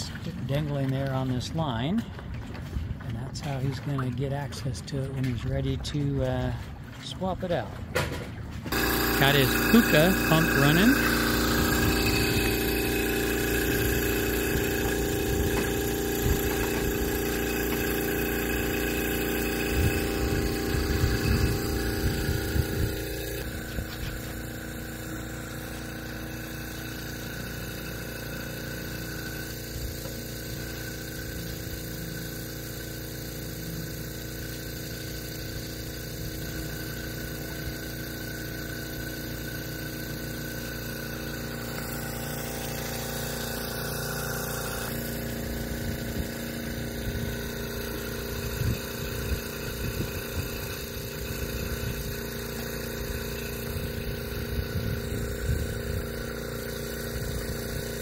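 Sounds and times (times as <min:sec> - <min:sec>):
air compressor droning: 0:00.0 - 0:58.0.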